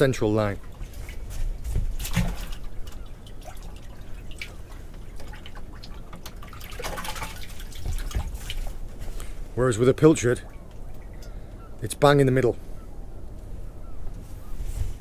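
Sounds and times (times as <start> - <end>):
water dripping and trickling: 0.0 - 12.3.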